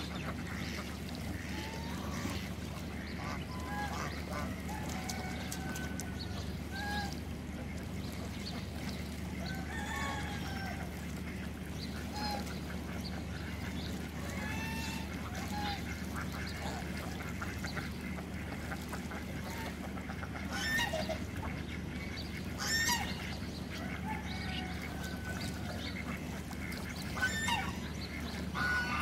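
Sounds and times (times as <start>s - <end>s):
ducks quacking: 0.0s - 29.0s
geese honking: 0.0s - 29.0s
steady low hum: 0.0s - 29.0s.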